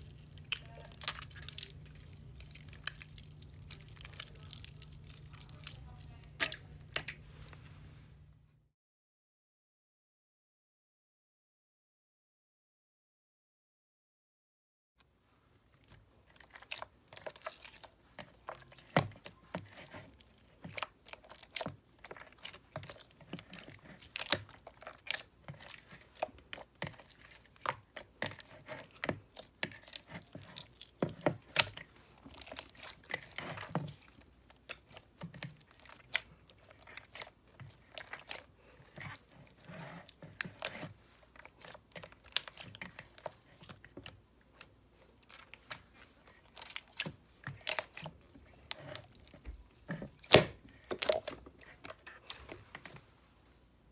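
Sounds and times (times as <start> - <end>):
slime squished by hand: 0.0 - 7.2, 15.8 - 53.1.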